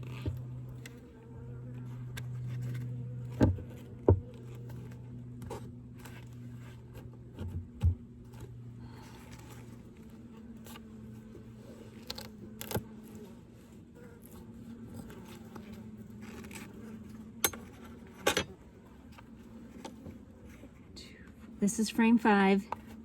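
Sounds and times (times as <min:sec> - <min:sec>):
honeybees humming: 0:00.0 - 0:23.0.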